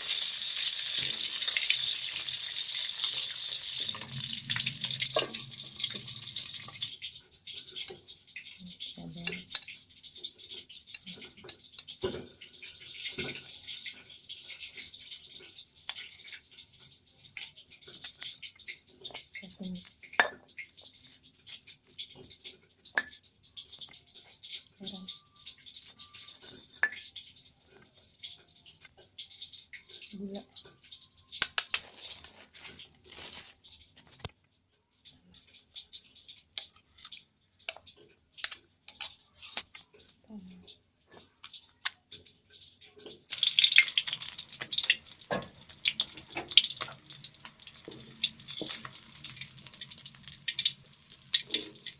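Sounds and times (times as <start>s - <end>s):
food sizzling in a frying pan: 0.0s - 34.2s, 35.0s - 51.9s.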